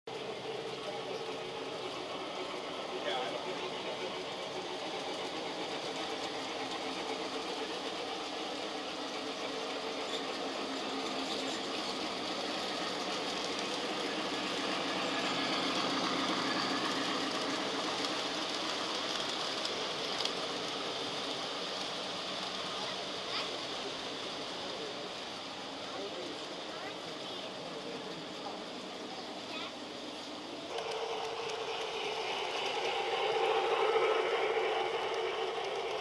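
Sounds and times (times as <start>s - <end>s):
model train clattering on track: 0.1s - 36.0s.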